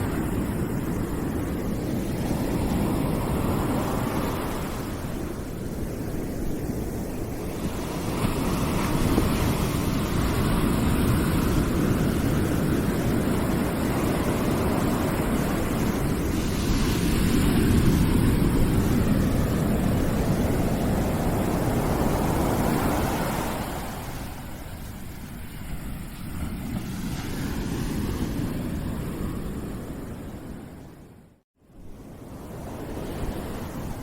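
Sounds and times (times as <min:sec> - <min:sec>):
low rushing noise like surf: 0:00.0 - 0:34.0.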